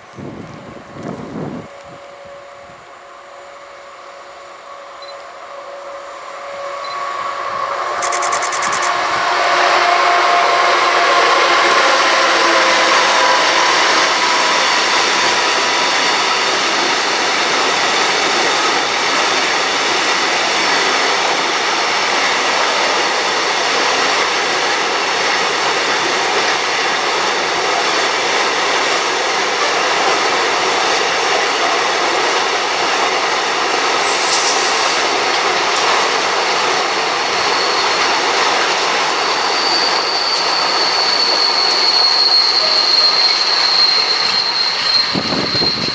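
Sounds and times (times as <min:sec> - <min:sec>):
freight train rolling past: 0:00.0 - 0:45.9
high wheel squeal: 0:05.1 - 0:33.2, 0:33.8 - 0:45.9.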